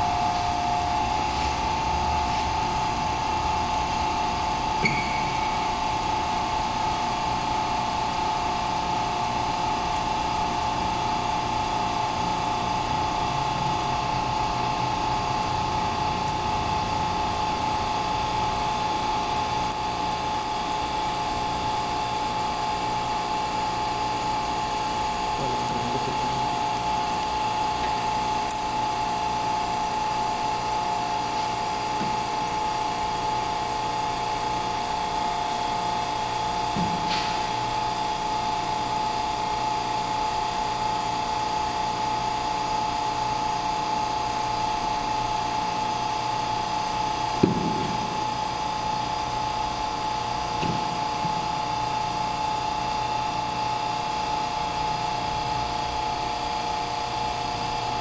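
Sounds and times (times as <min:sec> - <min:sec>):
hydraulic pump whine: 0:00.0 - 0:58.0.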